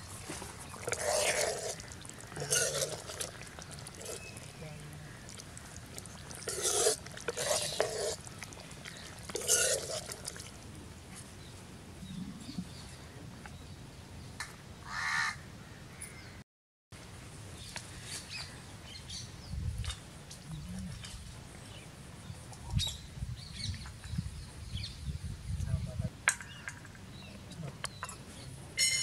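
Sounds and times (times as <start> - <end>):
steady outdoor background: 0.0 - 16.4, 17.0 - 29.0.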